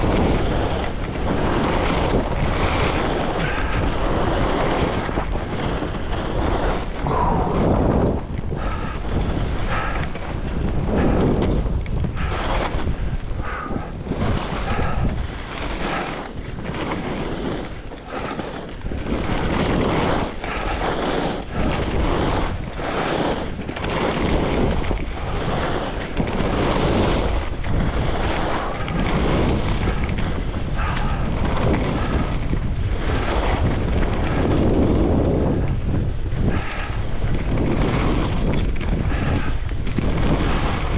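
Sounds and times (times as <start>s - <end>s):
skis carving on snow: 0.0s - 40.9s
wind rushing over microphone: 0.0s - 40.9s.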